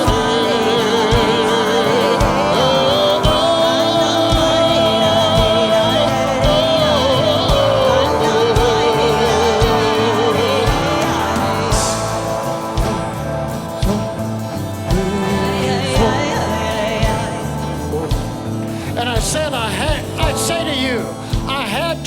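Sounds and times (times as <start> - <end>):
person singing long notes: 0.0 - 21.6
low drum beat: 0.0 - 22.0
sustained chords: 0.0 - 22.0.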